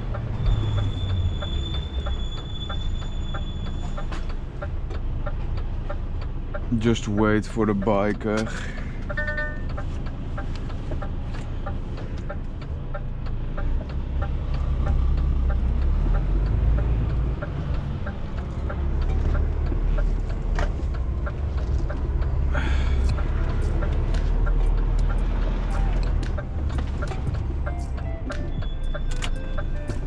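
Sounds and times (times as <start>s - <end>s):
diesel truck engine rumble: 0.0s - 30.0s
turn indicator ticking: 0.0s - 30.0s.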